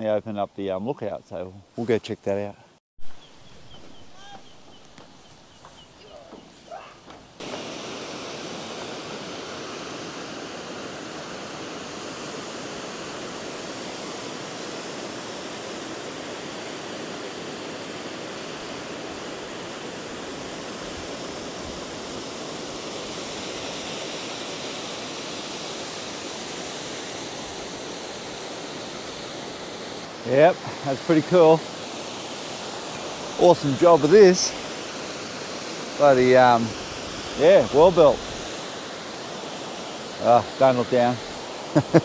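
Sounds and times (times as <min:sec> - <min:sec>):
waterfall rushing: 0:06.2 - 0:42.0.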